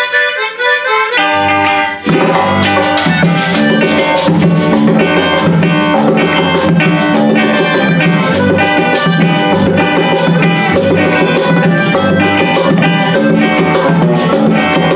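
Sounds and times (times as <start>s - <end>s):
harmonica melody: 0.0s - 14.9s
acoustic guitar: 1.0s - 14.9s
electric bass: 1.4s - 14.9s
metal scraper rhythm: 2.0s - 14.9s.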